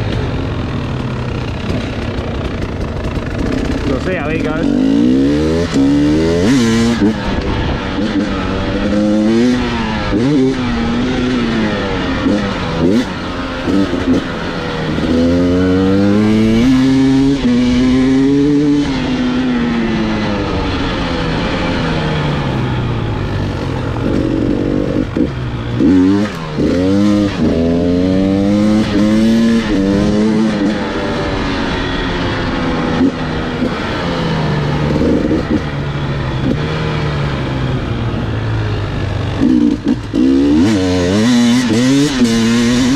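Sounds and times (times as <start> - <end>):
two-stroke motorcycle engine revving: 0.0 - 42.9.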